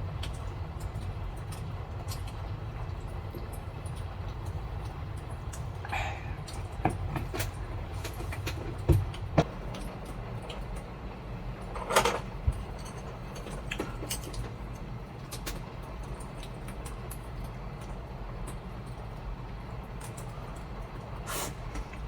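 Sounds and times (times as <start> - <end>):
wind and heavy rain rumble: 0.0 - 22.0.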